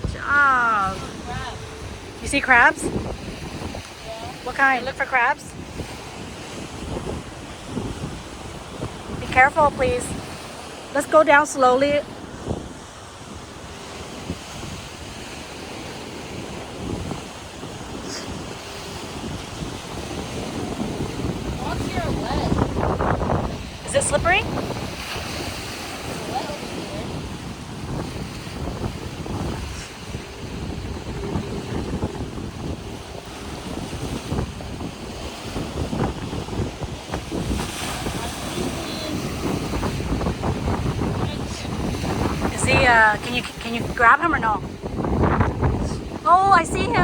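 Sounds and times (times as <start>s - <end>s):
surf on rocky shore: 0.0s - 47.0s
wind on microphone: 0.0s - 47.0s.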